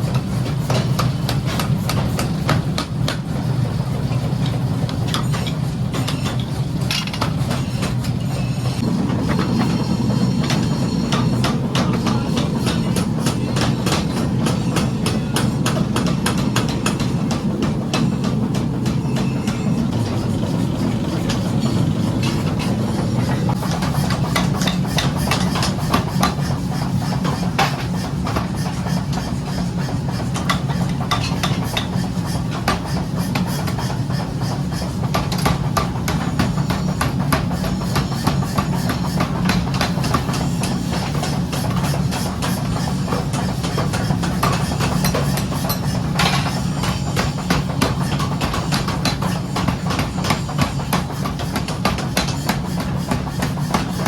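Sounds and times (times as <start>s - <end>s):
workshop machinery drone: 0.0s - 54.0s.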